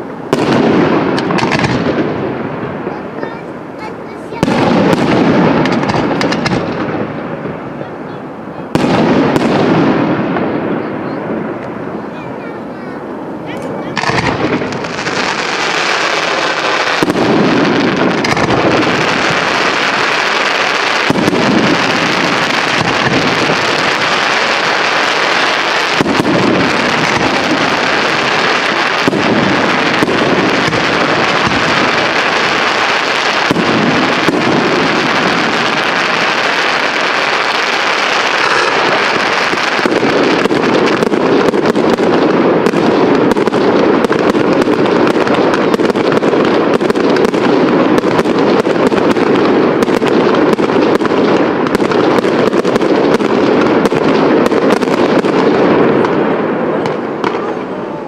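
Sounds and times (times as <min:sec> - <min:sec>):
fireworks crackling and popping: 0:00.0 - 0:58.0.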